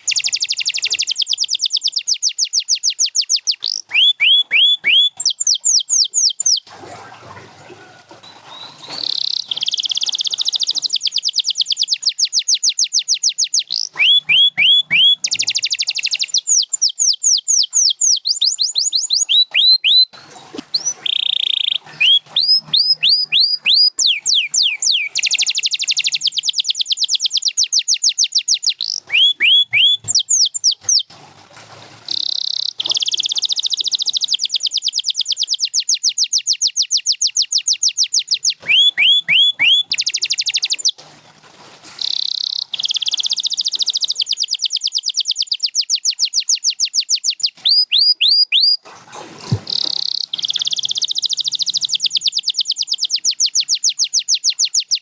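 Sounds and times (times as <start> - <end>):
canary singing: 0.0 - 6.7, 8.2 - 31.1, 32.1 - 41.0, 42.0 - 48.8, 49.6 - 55.0.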